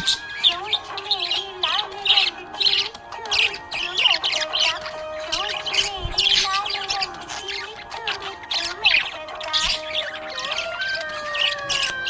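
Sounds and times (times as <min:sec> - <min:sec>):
background music with sliding melody: 0:00.0 - 0:12.0
budgerigar chirping and chattering: 0:00.0 - 0:12.0.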